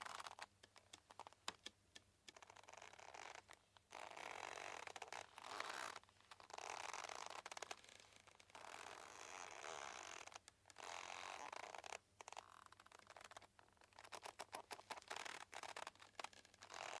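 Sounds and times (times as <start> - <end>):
mooring rope creaking: 2.3 - 17.0.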